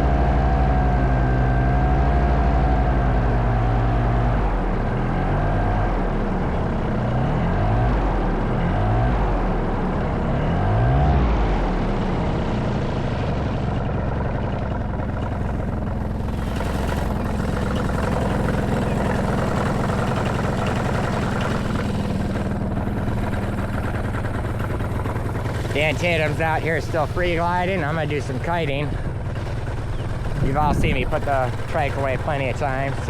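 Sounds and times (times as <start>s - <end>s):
paramotor engine running: 0.0s - 33.0s.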